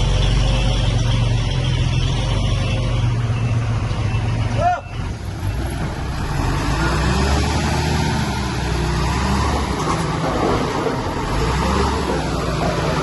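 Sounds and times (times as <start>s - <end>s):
diesel machinery engine drone: 0.0s - 13.0s.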